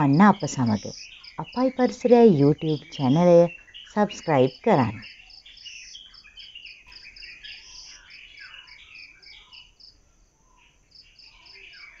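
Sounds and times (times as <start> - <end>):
bird chirps: 0.0 - 12.0
pulsing insect chirp: 0.0 - 12.0.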